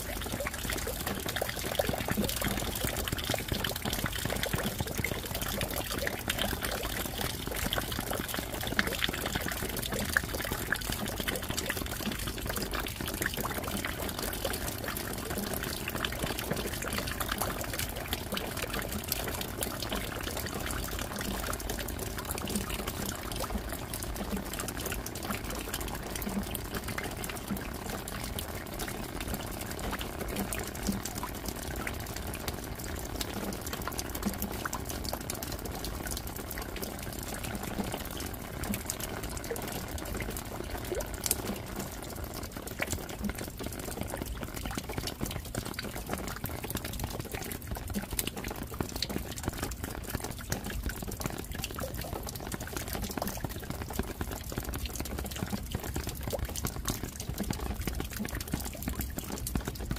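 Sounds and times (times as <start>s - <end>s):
low drip: 0.0s - 59.9s
steady rain falling: 0.0s - 59.9s.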